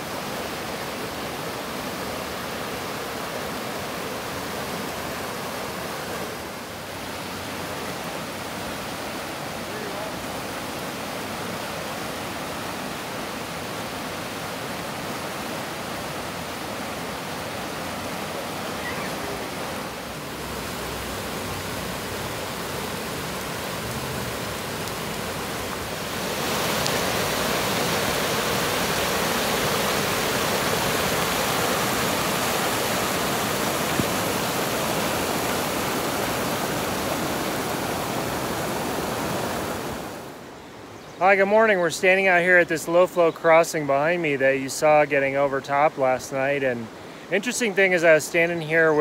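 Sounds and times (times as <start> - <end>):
floodwater roaring over crossing: 0.0 - 49.0.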